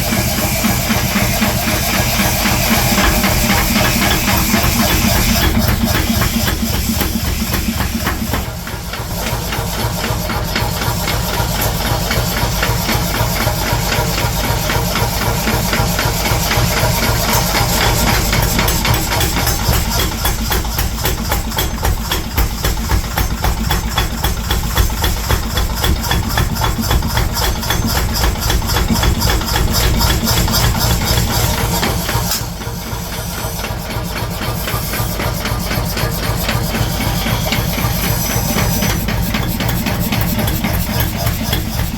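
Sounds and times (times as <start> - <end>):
machine running with fast pulse: 0.0 - 41.9.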